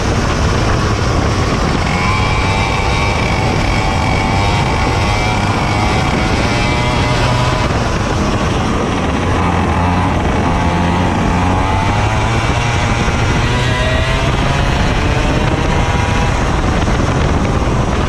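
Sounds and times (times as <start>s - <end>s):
racing kart engine: 0.0s - 18.0s
wind and road noise: 0.0s - 18.0s.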